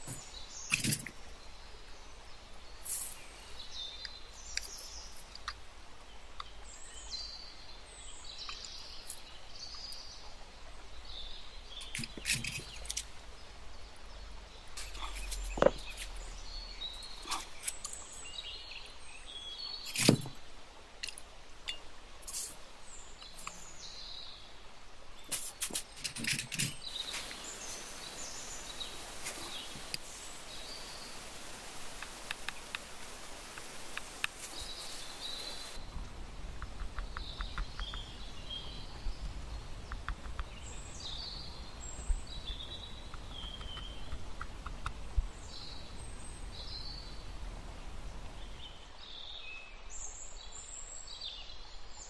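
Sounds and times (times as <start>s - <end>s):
faint steady hiss: 0.0s - 52.0s.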